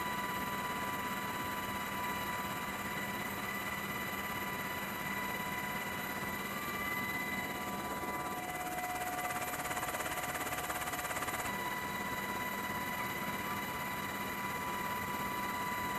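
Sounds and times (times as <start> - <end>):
constant high whines: 0.0 - 15.9
helicopter rotor and turbine drone: 0.0 - 15.9.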